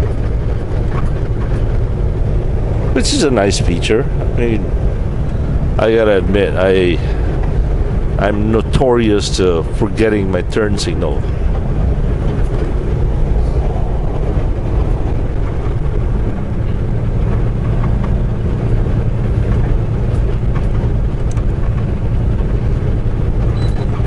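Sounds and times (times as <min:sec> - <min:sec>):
truck diesel engine and road drone: 0:00.0 - 0:24.0.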